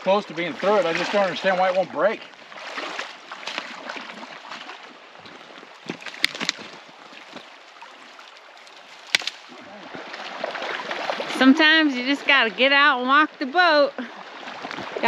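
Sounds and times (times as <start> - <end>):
river water running and sloshing: 0.0 - 15.0.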